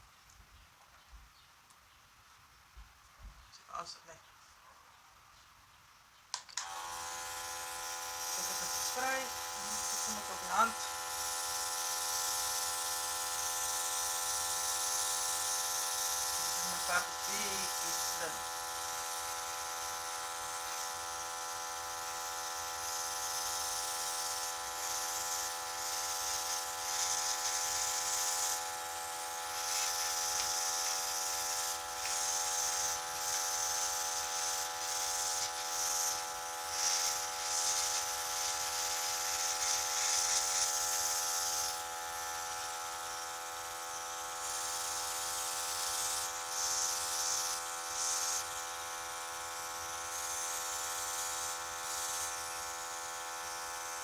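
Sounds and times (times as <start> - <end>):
air compressor humming: 6.6 - 54.0
airbrush spraying hissing spurts: 6.6 - 54.0.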